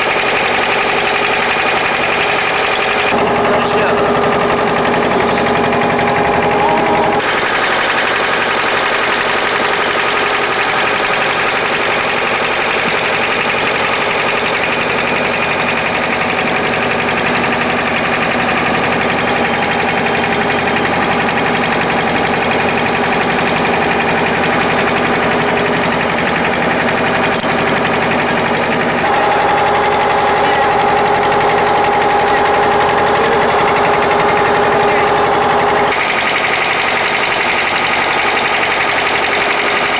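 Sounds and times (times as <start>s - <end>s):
engine droning: 0.0s - 39.9s.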